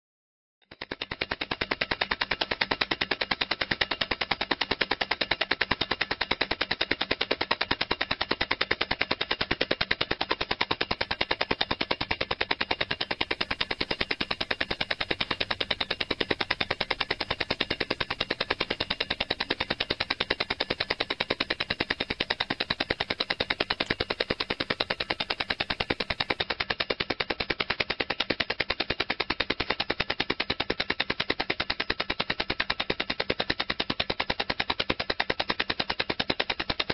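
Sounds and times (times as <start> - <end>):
stopwatch ticking rapidly: 0.7 - 36.9.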